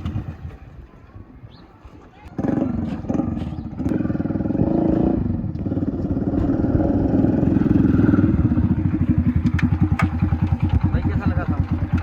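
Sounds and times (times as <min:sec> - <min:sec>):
motorcycle engine running: 0:02.3 - 0:12.0.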